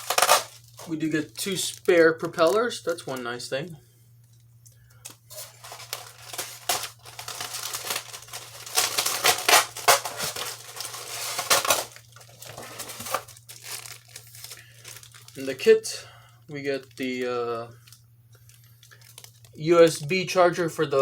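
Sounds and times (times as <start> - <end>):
plastic packaging crinkling: 0.0 - 3.5, 4.3 - 20.1.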